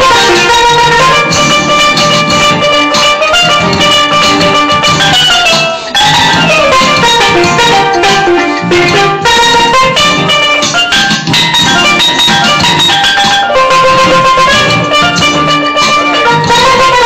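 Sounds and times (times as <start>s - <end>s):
steel pan melody: 0.0s - 17.0s.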